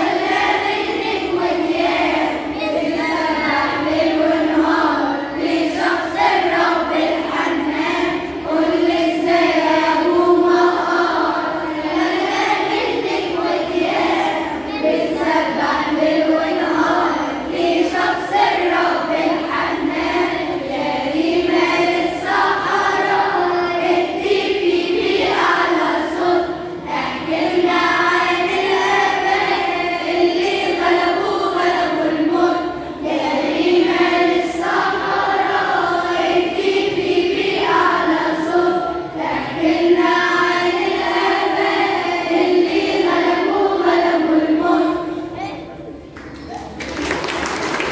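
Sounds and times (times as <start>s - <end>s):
women's voices singing: 0.0s - 45.4s
children's choir singing a hymn: 0.0s - 46.3s, 46.9s - 47.9s.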